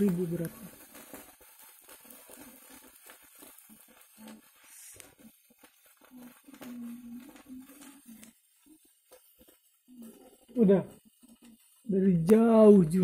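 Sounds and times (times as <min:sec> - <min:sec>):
sparklers fizzing and crackling: 0:00.0 - 0:13.0.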